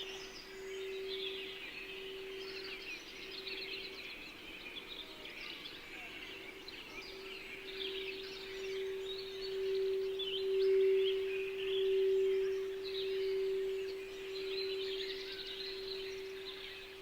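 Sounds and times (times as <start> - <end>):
singing bowl tone: 0.0 - 17.0
small birds chirping: 0.0 - 17.0.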